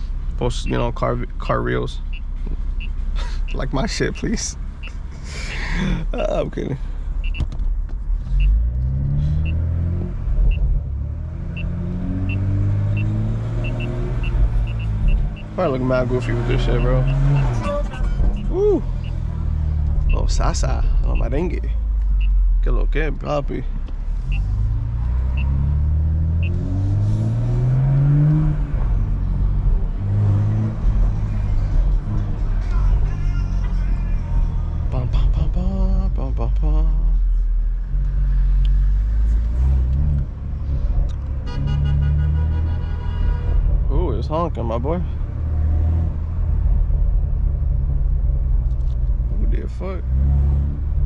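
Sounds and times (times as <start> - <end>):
car engine accelerating: 0.0 - 42.7, 43.6 - 51.0.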